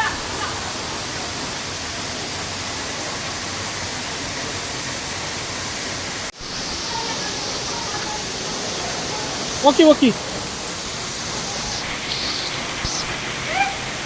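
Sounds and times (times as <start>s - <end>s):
waterfall rushing water: 0.0s - 14.0s.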